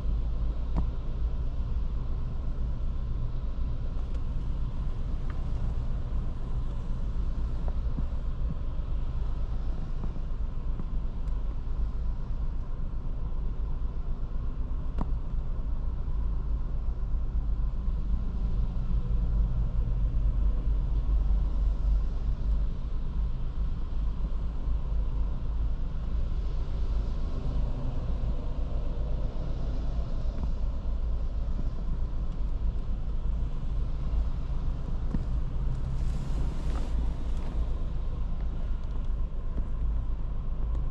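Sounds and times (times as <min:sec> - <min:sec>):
low road rumble: 0:00.0 - 0:40.9.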